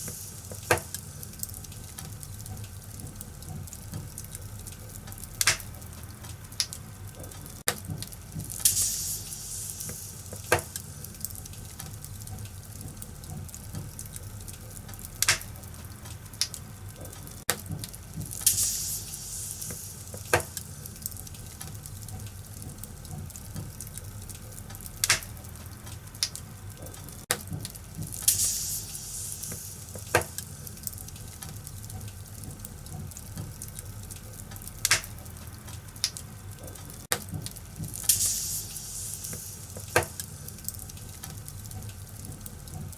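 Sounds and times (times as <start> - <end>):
fire hissing flare-ups: 0.0 - 42.8
fireplace fire crackling: 0.0 - 42.9.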